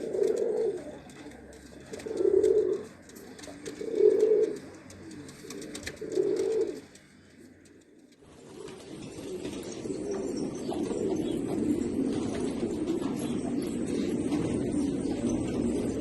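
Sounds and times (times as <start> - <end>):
pigeon cooing: 0.0 - 16.0.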